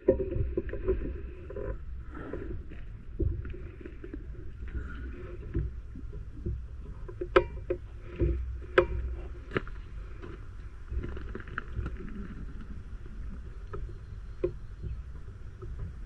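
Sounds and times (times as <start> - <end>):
handling rumble: 0.0 - 16.0
low wind: 0.0 - 16.0.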